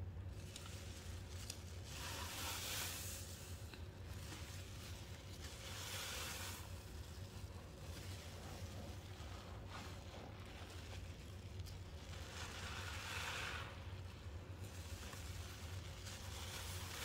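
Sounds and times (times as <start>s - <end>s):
steady low hum: 0.0s - 17.0s
wet sponge squelching: 0.3s - 17.0s.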